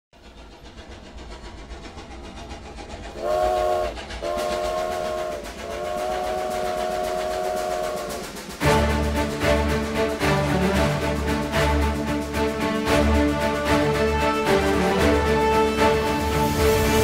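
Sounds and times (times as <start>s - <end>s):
steam locomotive chugging: 0.2s - 17.0s.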